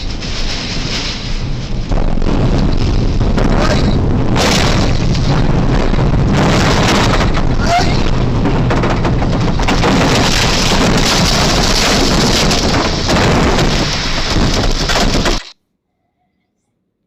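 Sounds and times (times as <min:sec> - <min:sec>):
gusting wind: 0:00.0 - 0:15.5
heavy rain pounding: 0:00.0 - 0:15.5.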